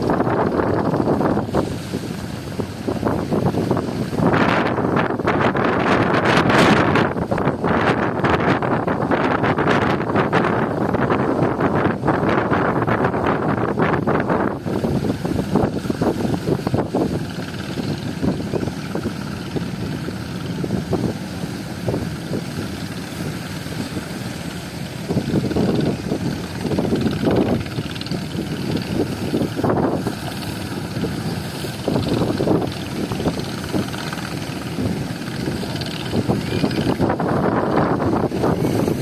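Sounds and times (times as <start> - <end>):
sea: 0.0 - 39.0
wind buffeting microphone: 0.0 - 39.0.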